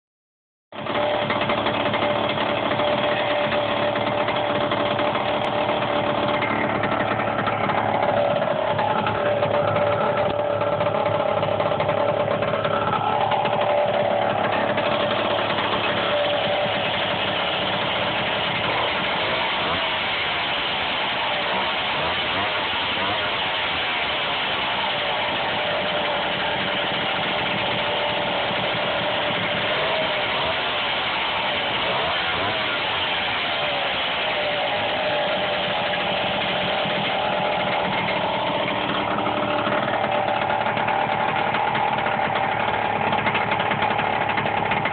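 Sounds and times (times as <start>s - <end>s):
motorbike engine idling: 0.7s - 44.9s.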